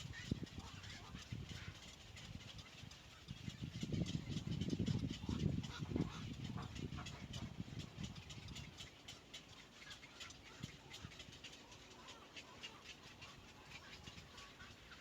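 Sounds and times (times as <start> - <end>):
birds ticking and squeaking: 0.1 - 15.0.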